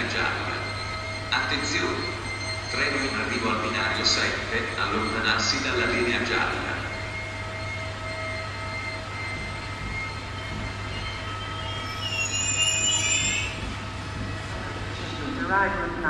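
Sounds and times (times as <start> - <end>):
train wheels squealing: 0.0 - 15.8
train coaches rolling on rails: 0.0 - 16.0.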